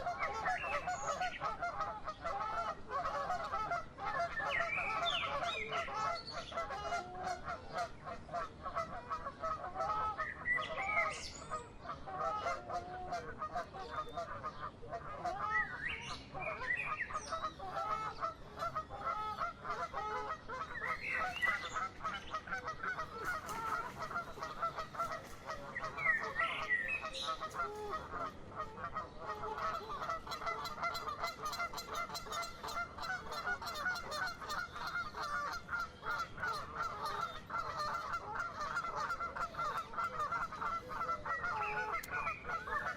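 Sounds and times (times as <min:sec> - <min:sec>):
honking bird calls: 0:00.0 - 0:42.9.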